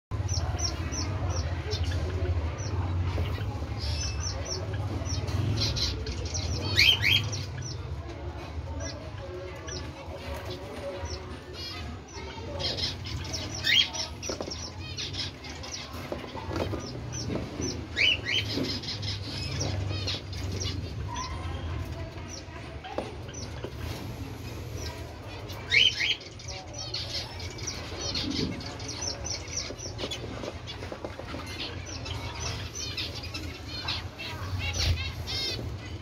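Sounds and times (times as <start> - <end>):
loud bird calls: 0.2 - 7.9, 9.6 - 36.0
cockatiels chirping: 0.3 - 7.9, 8.8 - 36.0.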